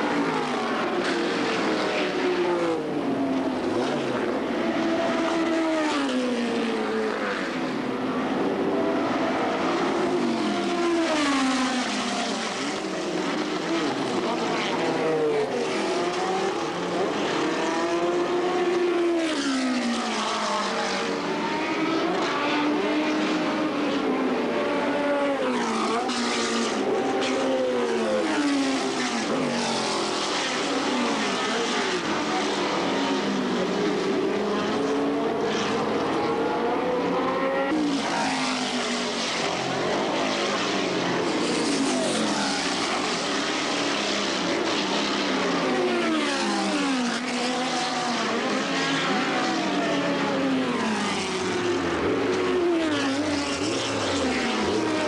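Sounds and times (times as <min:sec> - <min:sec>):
racing cars passing at speed: 0:00.0 - 0:55.0.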